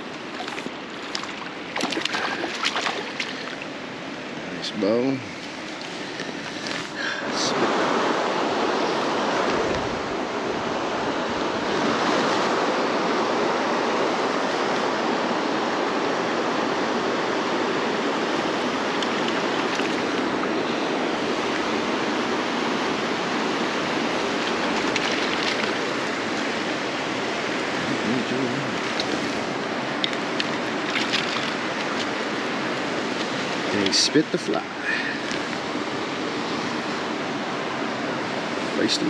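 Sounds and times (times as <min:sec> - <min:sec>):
river water rushing over rocks: 0:00.0 - 0:39.0.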